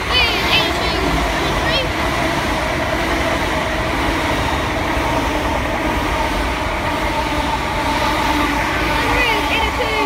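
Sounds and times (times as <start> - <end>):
constant hum: 0.0 - 10.0
train wheels rumbling on rail: 0.0 - 10.0.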